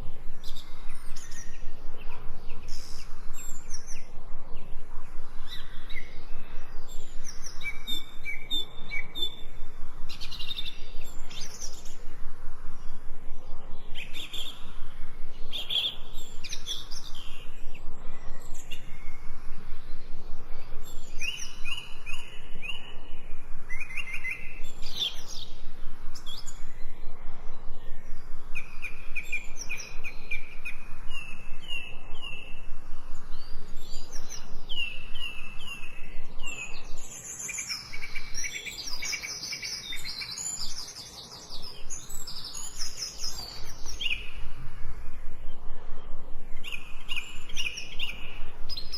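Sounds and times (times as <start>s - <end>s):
songbirds singing: 0.0s - 48.9s
steady background hiss: 0.0s - 48.9s.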